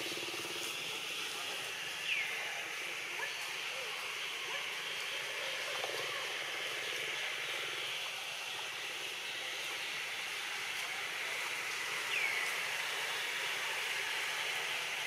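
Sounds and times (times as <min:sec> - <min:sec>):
forest background hiss: 0:00.0 - 0:15.0.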